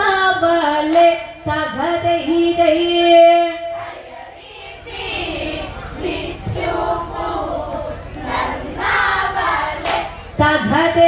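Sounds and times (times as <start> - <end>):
women singing together: 0.0 - 11.0.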